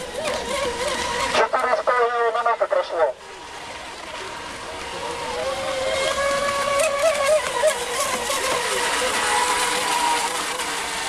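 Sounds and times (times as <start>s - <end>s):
model boat motor whining: 0.0s - 11.0s.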